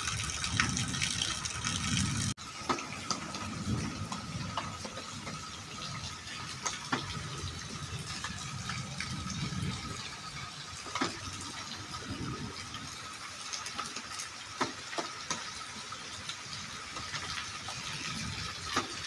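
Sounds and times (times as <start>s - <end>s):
steady rain on paving: 0.0s - 19.0s.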